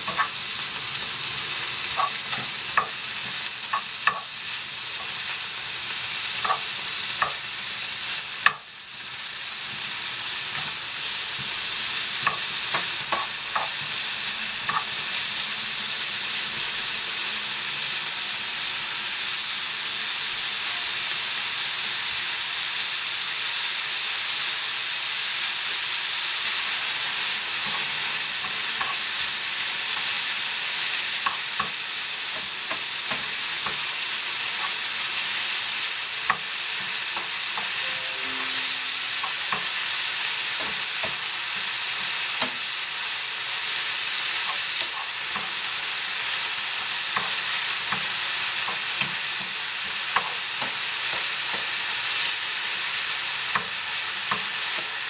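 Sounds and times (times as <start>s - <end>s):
bacon sizzling in a frying pan: 0.0s - 55.0s.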